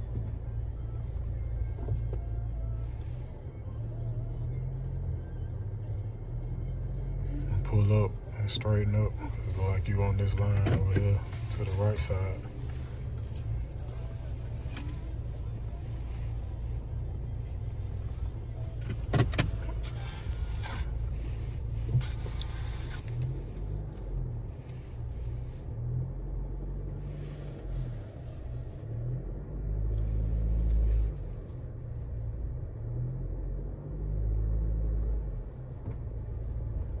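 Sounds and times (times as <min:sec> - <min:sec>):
truck engine rumble: 0:00.0 - 0:37.0.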